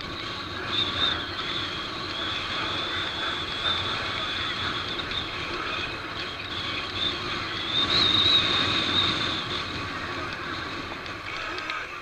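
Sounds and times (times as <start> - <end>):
road and wind noise: 0.0 - 12.0
steady high whine: 0.0 - 12.0.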